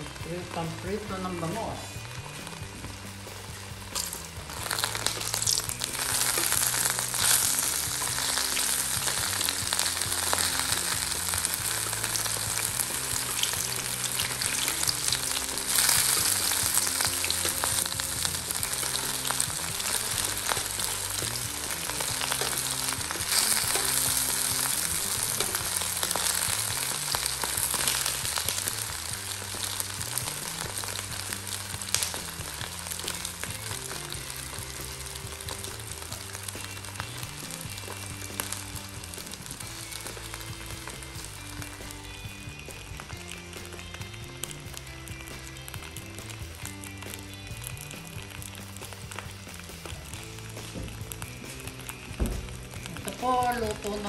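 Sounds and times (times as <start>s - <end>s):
oil sizzling in a wok: 0.0s - 54.0s.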